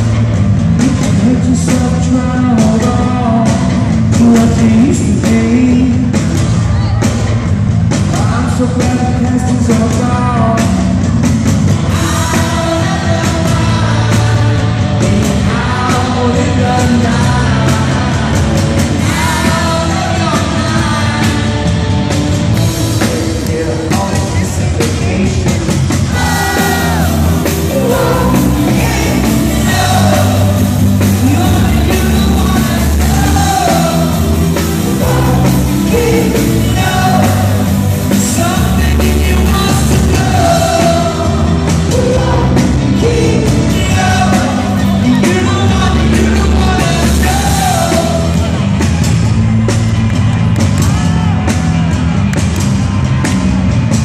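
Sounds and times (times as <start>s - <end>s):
bass guitar: 0.0s - 54.0s
drum kit: 0.0s - 54.0s
electric guitar: 0.0s - 54.0s
man singing: 0.7s - 7.2s, 8.1s - 11.1s, 11.9s - 21.8s, 22.6s - 48.6s.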